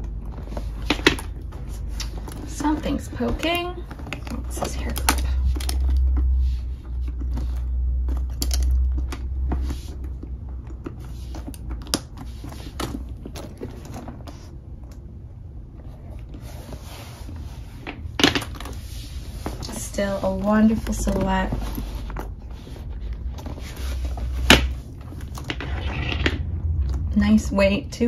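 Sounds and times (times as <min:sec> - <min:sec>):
hands rummaging in a leather bag: 0:00.0 - 0:26.8.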